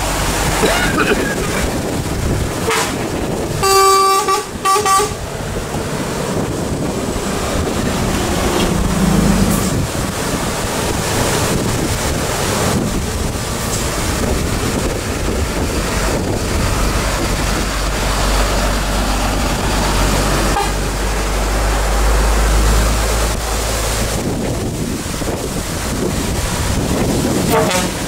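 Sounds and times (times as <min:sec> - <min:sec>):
truck engine deep rumble: 0:00.0 - 0:28.0
truck passing: 0:00.0 - 0:28.0.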